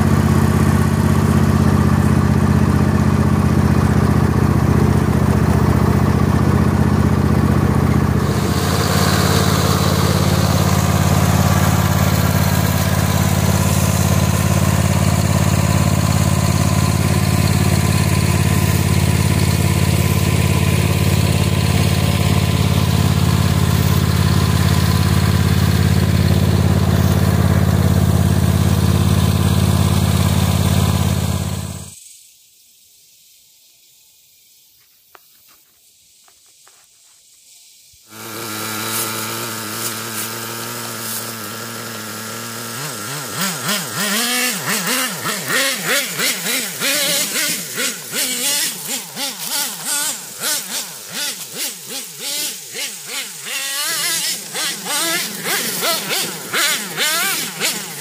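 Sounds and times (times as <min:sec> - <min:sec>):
loud engine drone: 0:00.0 - 0:32.0, 0:38.1 - 0:58.0
rc truck engine revving: 0:00.0 - 0:32.0, 0:38.1 - 0:58.0.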